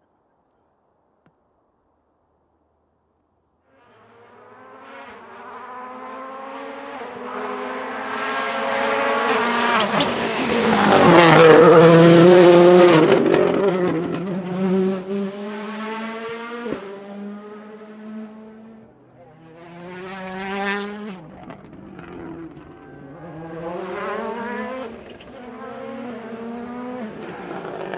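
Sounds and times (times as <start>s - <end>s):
rally car engine revving hard: 4.2s - 18.8s, 19.6s - 27.9s.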